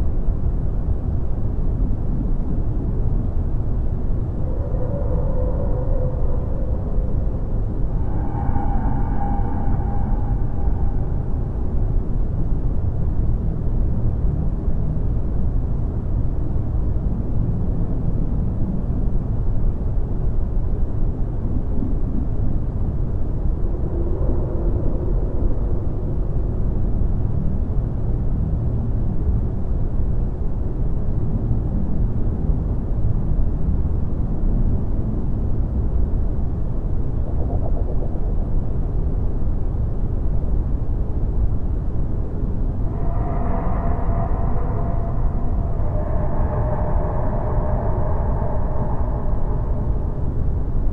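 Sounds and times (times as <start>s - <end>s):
deep rumbling noise: 0.0s - 50.9s
faint hum: 0.0s - 50.9s.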